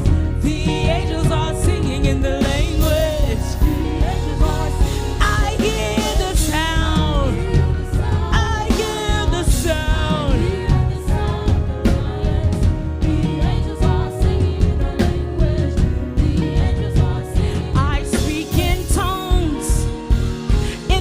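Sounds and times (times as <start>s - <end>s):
drum beat: 0.0s - 21.0s
worship band playing: 0.0s - 21.0s.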